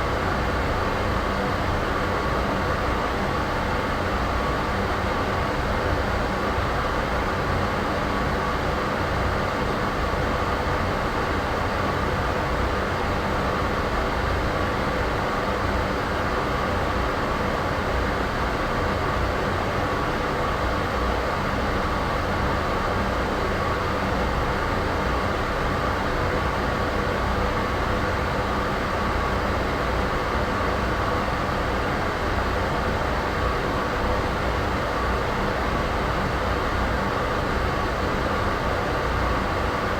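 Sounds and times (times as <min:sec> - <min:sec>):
white noise rumble and hiss: 0:00.0 - 0:39.9.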